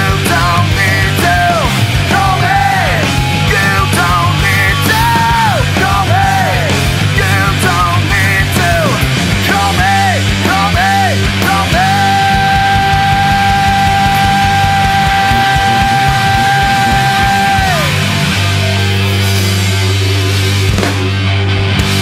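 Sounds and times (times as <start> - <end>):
person yelling singing: 0.0 - 18.1
distorted electric guitar: 0.0 - 22.0
heavy rock band playing live: 0.0 - 22.0.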